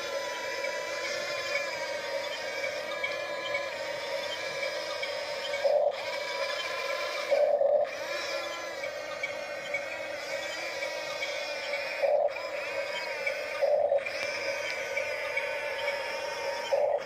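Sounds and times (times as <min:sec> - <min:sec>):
toy electric gear motors whining: 0:00.0 - 0:17.0.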